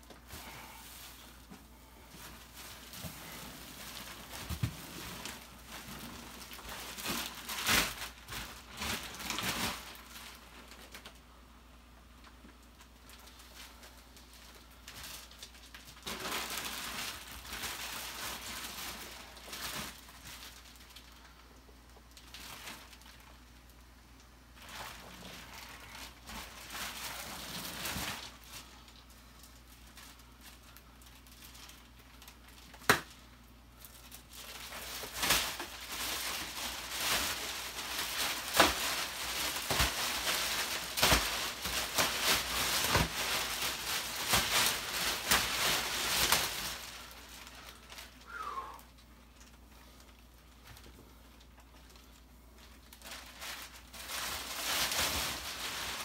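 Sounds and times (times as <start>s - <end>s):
plastic wrapping crinkling: 0.0s - 11.4s, 12.0s - 56.0s.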